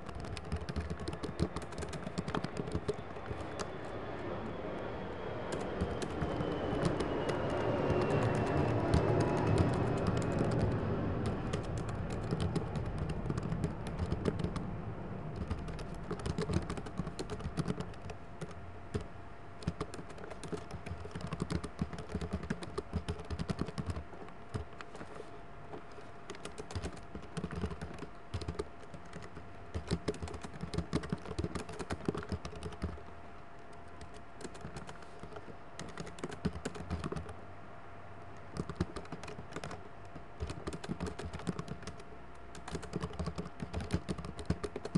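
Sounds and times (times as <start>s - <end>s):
typing on computer keyboard: 0.0s - 3.8s, 5.4s - 14.7s, 15.3s - 25.2s, 26.3s - 33.0s, 33.7s - 37.4s, 38.5s - 44.9s
low background sound: 0.0s - 44.9s.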